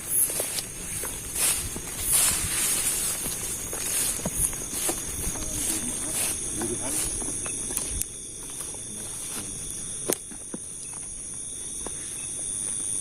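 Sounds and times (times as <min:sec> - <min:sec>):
footsteps in undergrowth: 0:00.0 - 0:13.0
night insects shrilling: 0:00.0 - 0:13.0.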